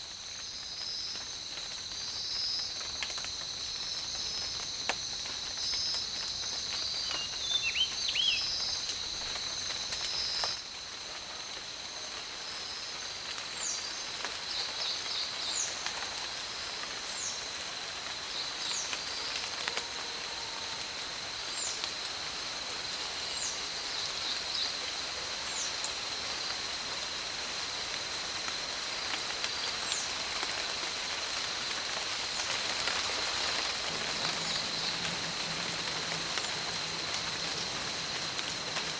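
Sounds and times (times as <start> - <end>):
insect droning: 0.0 - 38.9
steady hiss: 0.0 - 38.9.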